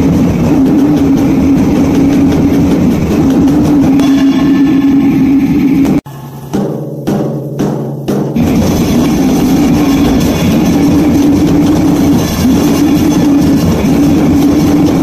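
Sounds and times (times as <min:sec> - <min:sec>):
distorted guitar riffing: 0:00.0 - 0:06.0, 0:08.4 - 0:15.0
drums: 0:00.0 - 0:15.0.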